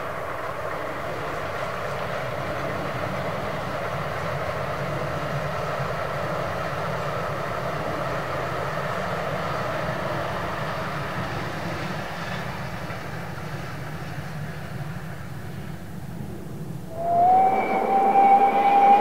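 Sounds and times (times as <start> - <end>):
train rolling past: 0.0 - 19.0.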